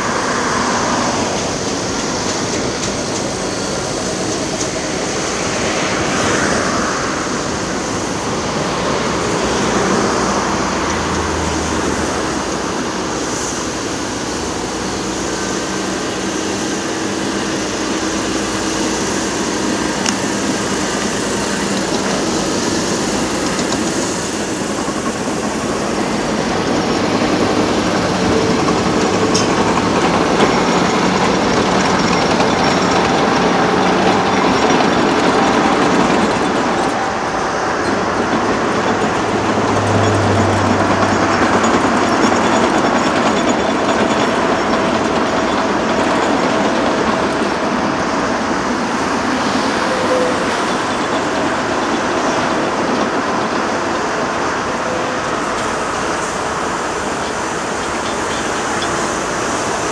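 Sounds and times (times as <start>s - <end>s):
diesel construction machinery running: 0.0s - 59.9s
motorway traffic rushing: 0.0s - 59.9s.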